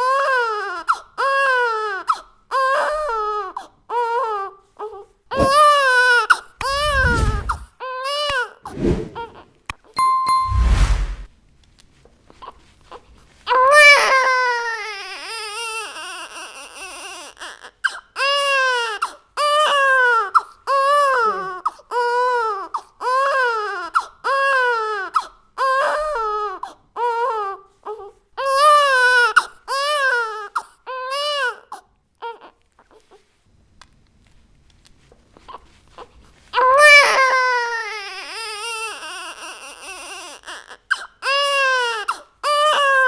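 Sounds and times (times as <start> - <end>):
baby crying: 0.0 - 8.6, 13.5 - 33.1, 36.6 - 43.0.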